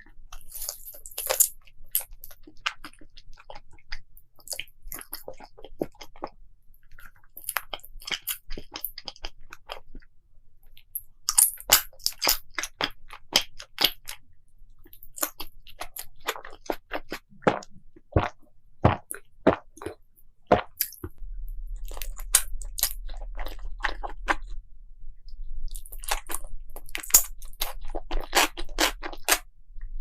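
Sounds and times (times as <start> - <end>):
chewing crunchy food: 0.0 - 10.1, 10.7 - 14.2, 14.8 - 24.6, 25.7 - 29.5.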